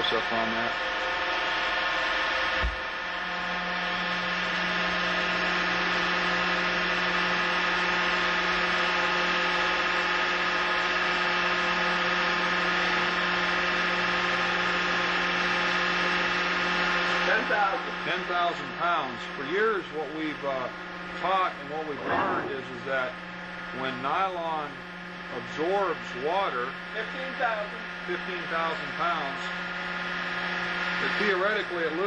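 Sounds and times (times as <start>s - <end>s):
test machine humming: 0.0s - 32.0s.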